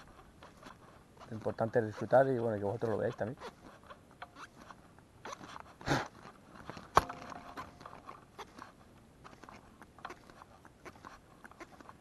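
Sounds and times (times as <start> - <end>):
light ticks of reel: 0.0 - 12.0
rustle of fishing rod handling: 0.0 - 12.0.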